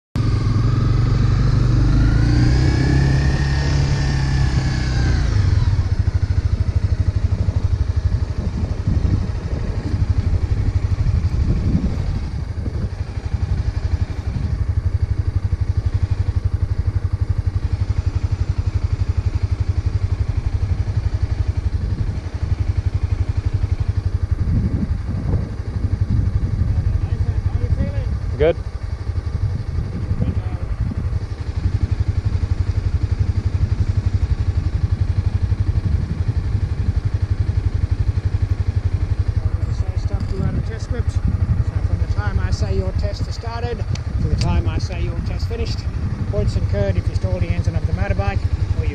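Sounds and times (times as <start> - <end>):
motorcycle engine revving and idling: 0.2 - 48.9.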